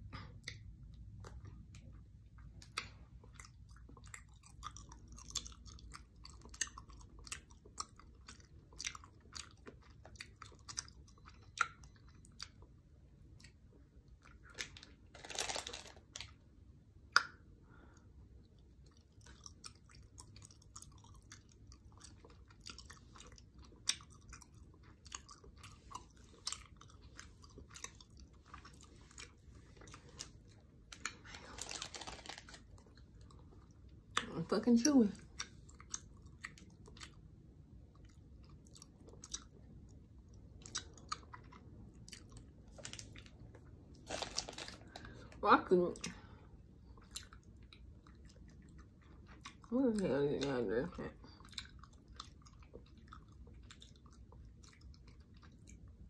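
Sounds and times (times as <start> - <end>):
chewing crunchy food: 0.1 - 45.4, 46.0 - 56.0.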